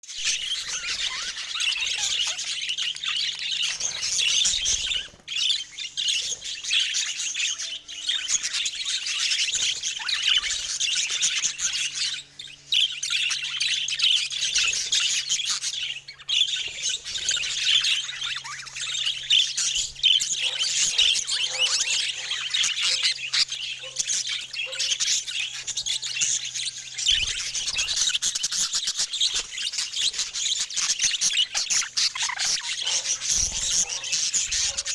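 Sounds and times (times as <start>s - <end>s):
budgies chattering and warbling: 0.0s - 34.9s.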